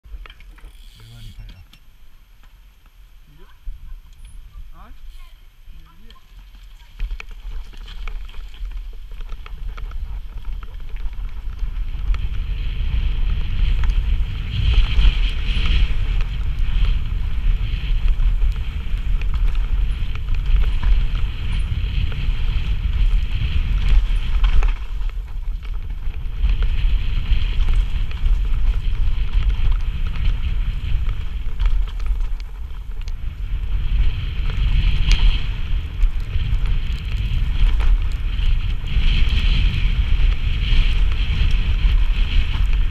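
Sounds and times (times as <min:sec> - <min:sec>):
bike tyres rolling on dirt: 0:00.0 - 0:42.9
wind buffeting microphone: 0:03.3 - 0:42.9
bike clattering over bumps: 0:06.3 - 0:42.9.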